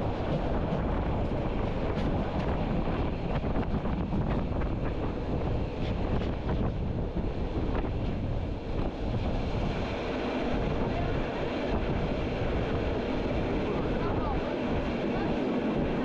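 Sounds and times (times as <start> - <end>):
train running rumble: 0.0 - 16.0
wind buffeting microphone: 0.0 - 16.0.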